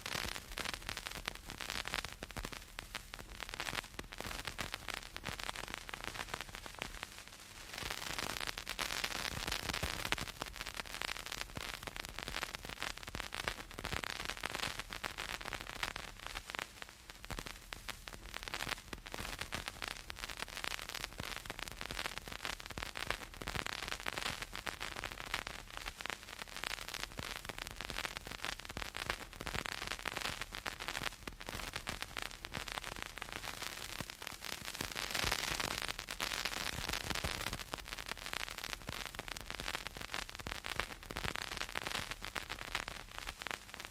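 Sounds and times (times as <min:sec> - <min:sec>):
vinyl record crackle and pops: 0:00.0 - 0:43.9.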